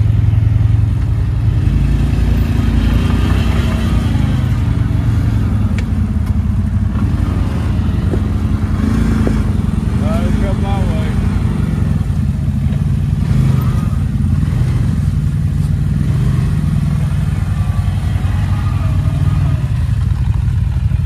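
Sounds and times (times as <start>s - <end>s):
off-road vehicle engine at low revs: 0.0s - 21.0s.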